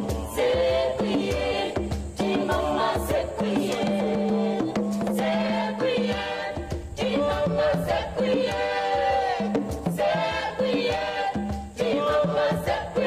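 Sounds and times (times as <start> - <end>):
percussion: 0.0 - 13.0
voices singing: 0.0 - 13.0.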